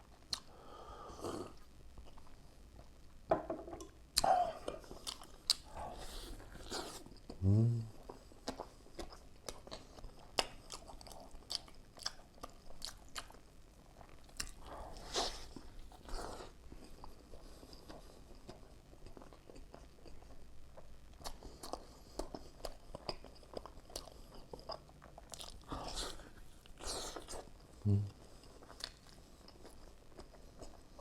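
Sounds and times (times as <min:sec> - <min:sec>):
chewing with wet mouth clicks: 0:00.1 - 0:00.5, 0:03.8 - 0:05.7, 0:08.0 - 0:31.0.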